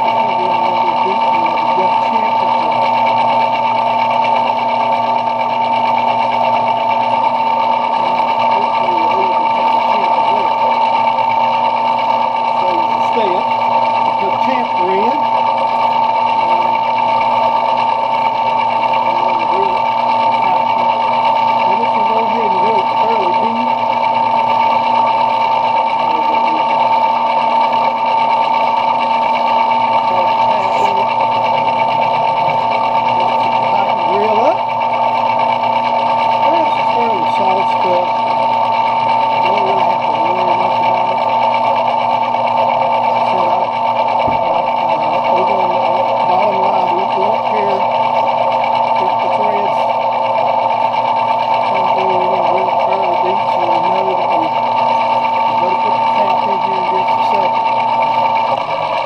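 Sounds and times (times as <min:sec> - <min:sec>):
metal lathe whining: 0:00.0 - 0:59.0.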